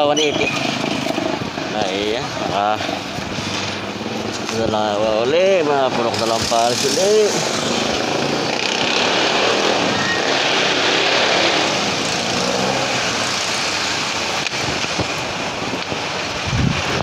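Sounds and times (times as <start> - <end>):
motorcycles and cars passing: 0.0 - 17.0.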